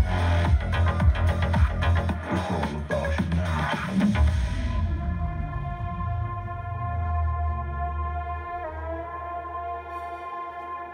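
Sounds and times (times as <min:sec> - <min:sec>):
electronic music with heavy bass: 0:00.0 - 0:09.8.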